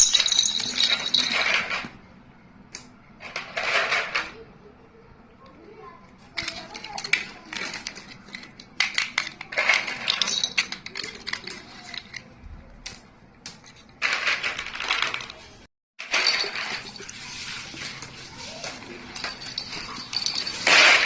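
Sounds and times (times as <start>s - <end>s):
small hard toys clattering: 0.0s - 2.0s, 3.2s - 4.4s, 6.1s - 21.0s.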